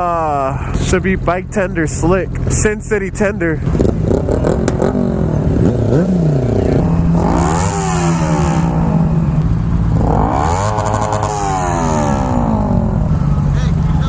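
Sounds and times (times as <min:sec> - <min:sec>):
low engine hum: 0:00.0 - 0:14.0
motorcycle engine revving: 0:00.0 - 0:14.0.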